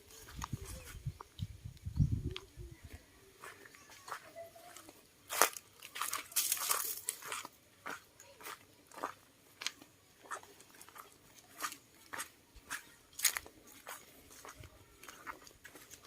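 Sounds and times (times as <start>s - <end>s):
footsteps crunching on dry ground: 0.0s - 16.0s.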